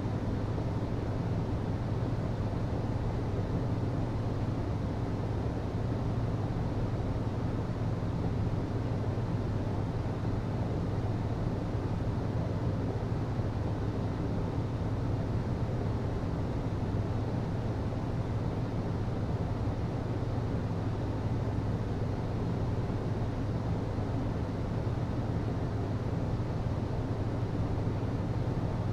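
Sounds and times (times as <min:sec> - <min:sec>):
hvac system humming: 0:00.0 - 0:28.9.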